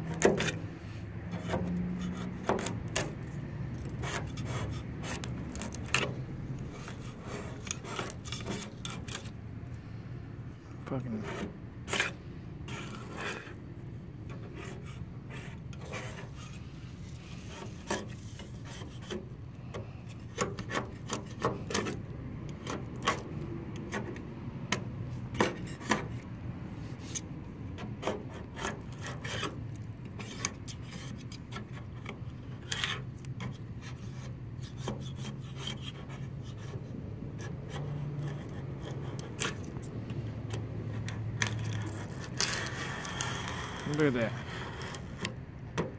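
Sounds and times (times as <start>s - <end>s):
razor blade scraping paint: 0.0s - 9.4s, 10.8s - 45.9s.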